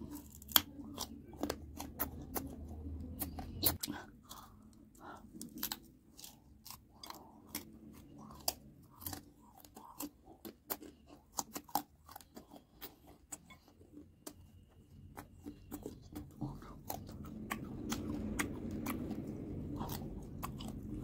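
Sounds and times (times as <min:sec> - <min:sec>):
chewing crunchy fruit: 0:00.0 - 0:21.0.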